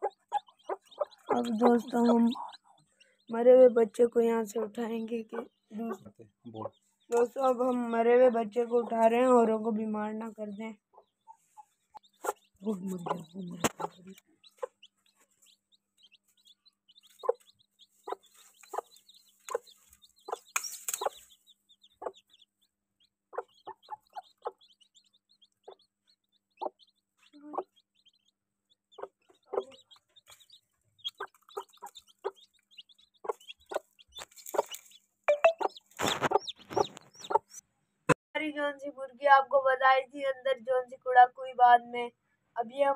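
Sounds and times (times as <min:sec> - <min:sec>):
hen clucking: 0:00.0 - 0:03.3, 0:05.1 - 0:09.5, 0:10.9 - 0:37.6
chicks peeping: 0:00.0 - 0:37.6.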